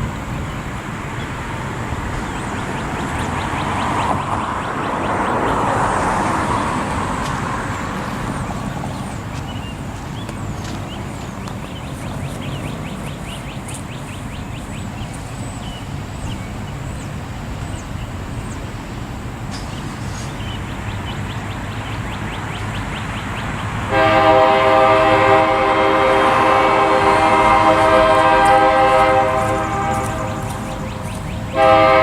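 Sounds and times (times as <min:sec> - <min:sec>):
birds chirping: 0:00.0 - 0:32.0
traffic rumble: 0:00.0 - 0:32.0
vehicle passing by: 0:00.0 - 0:32.0.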